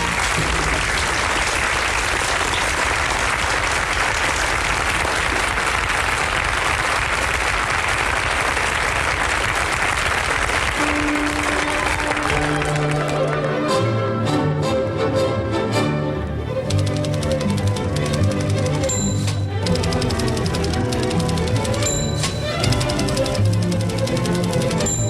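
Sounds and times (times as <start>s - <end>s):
audience applauding: 0.0s - 14.0s, 16.7s - 25.0s.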